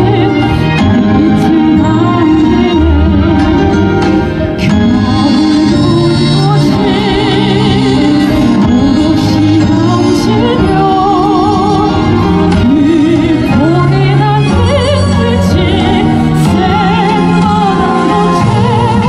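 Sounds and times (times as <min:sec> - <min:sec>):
instrumental backing with bass: 0:00.0 - 0:19.0
woman singing with vibrato: 0:00.0 - 0:19.0.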